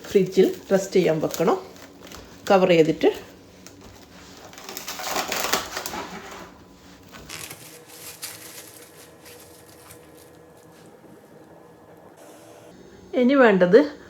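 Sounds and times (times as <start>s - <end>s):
plastic wrap crinkling: 0.0s - 11.6s.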